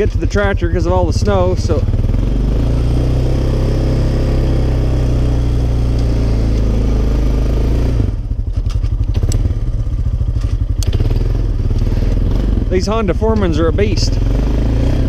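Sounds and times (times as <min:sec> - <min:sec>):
engine slow lumpy chug: 0:00.0 - 0:04.1, 0:05.2 - 0:14.8
engine working hard under load: 0:00.0 - 0:15.0.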